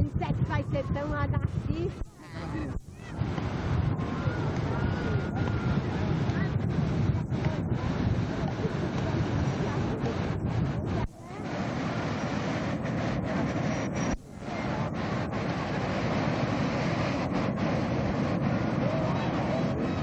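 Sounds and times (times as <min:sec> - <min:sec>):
wind noise on microphone: 0:00.0 - 0:20.0
breaking surf: 0:02.1 - 0:20.0.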